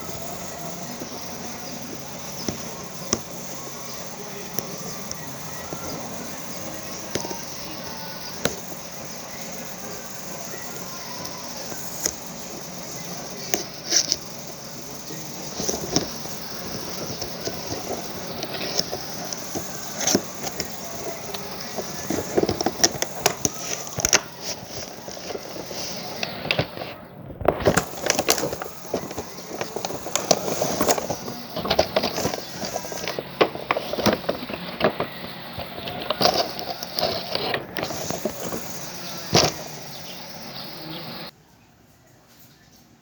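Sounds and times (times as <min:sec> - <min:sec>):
plastic toy clicks and knocks: 0:00.0 - 0:39.8
packaging rustling: 0:00.0 - 0:40.6.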